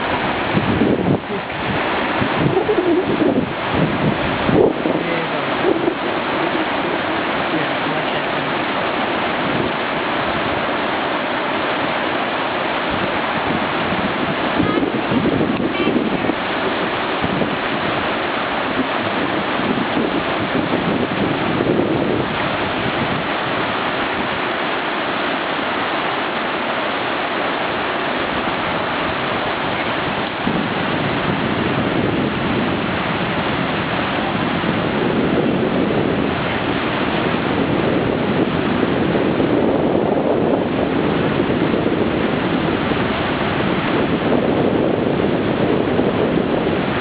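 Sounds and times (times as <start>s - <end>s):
whitewater rushing over boulders: 0.0s - 47.0s.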